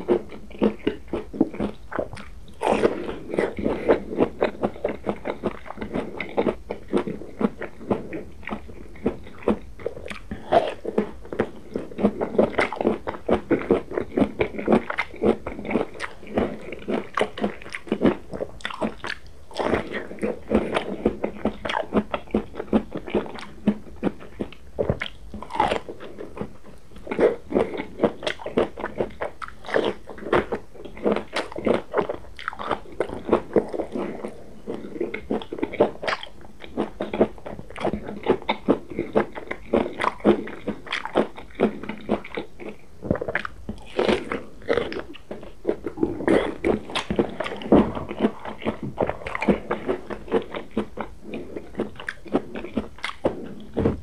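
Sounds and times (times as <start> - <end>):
chewing mouth clicks: 0.0 - 53.8.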